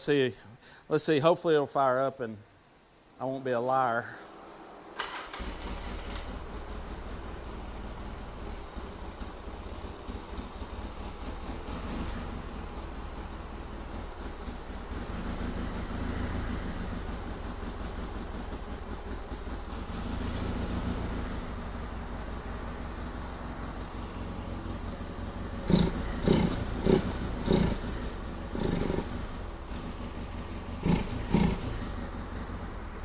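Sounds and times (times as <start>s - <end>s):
atv engine idling: 4.2s - 33.0s
engine throttle blips: 4.4s - 33.0s.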